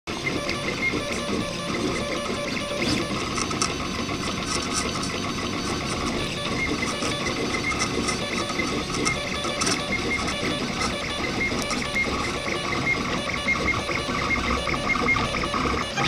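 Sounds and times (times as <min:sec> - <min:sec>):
printer ticks: 0:00.1 - 0:16.0
steady printer hum: 0:00.1 - 0:16.0
stepper motors whining: 0:00.1 - 0:16.0.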